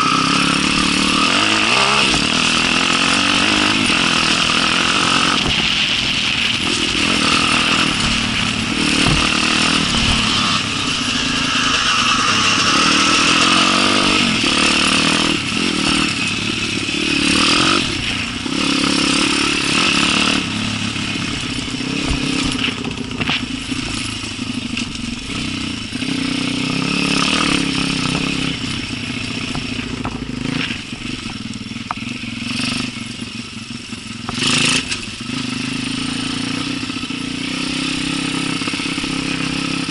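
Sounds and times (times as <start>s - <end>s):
motorcycle engine revving: 0.0s - 39.9s
bike clattering over rough ground: 0.2s - 39.9s.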